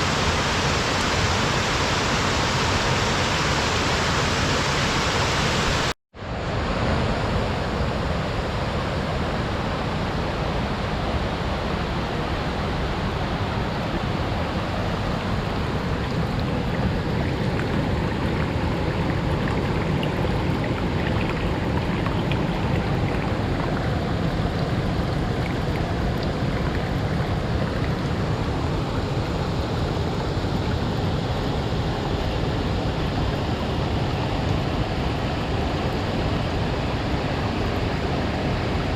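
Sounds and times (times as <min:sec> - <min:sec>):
waterfall roaring: 0:00.0 - 0:05.9, 0:06.6 - 0:38.9.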